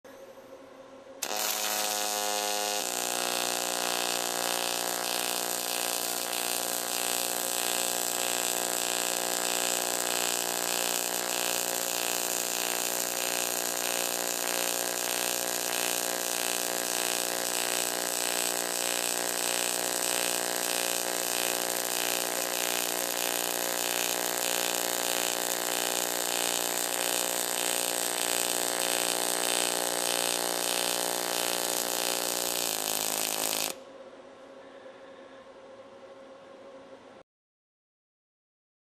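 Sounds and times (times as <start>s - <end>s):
welding arc buzzing: 1.2s - 33.8s.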